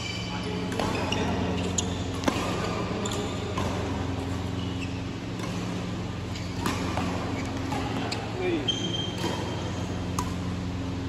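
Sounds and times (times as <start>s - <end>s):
rackets striking shuttlecock: 0.0s - 10.8s
steady low hum: 0.0s - 11.0s.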